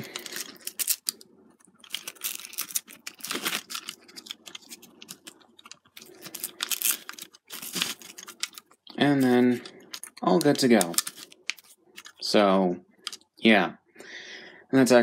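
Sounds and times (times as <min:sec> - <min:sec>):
plastic clicks and scrapes: 0:00.0 - 0:12.2.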